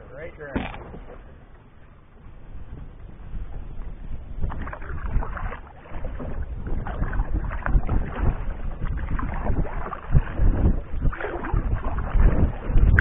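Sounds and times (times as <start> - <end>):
water lapping against canoe hull: 0.0 - 13.0
wind buffeting microphone: 0.0 - 13.0.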